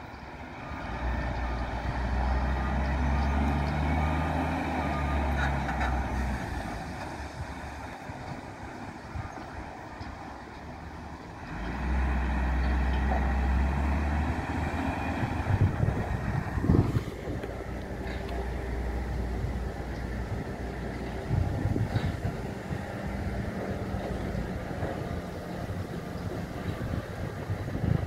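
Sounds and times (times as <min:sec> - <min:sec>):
diesel engine working hard: 0:00.0 - 0:28.0.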